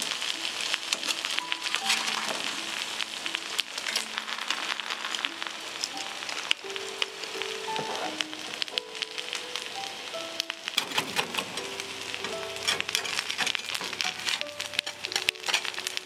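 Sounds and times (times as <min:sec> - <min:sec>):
food sizzling in a frying pan: 0:00.0 - 0:16.0
slow held melody music: 0:00.0 - 0:16.0.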